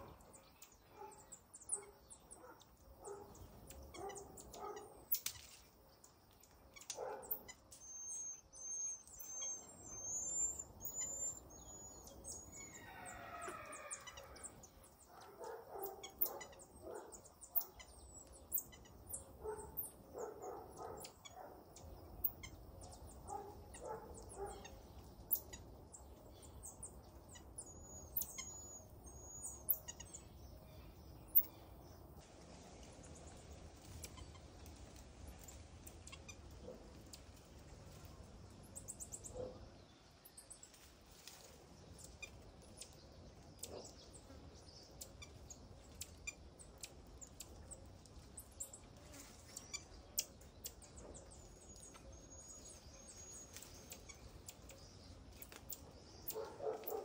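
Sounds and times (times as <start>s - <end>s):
bird chirps and calls: 0.0s - 31.8s, 42.0s - 57.0s.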